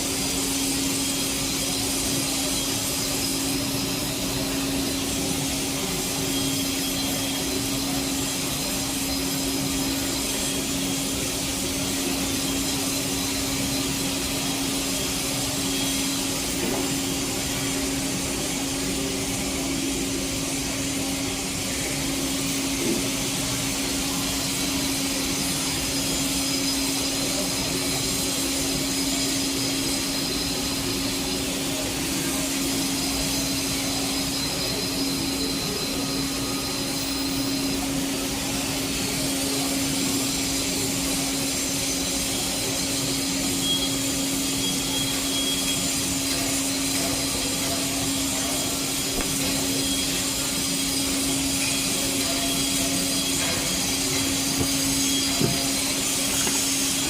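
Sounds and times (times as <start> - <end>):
arc welding hiss: 0.0 - 57.0.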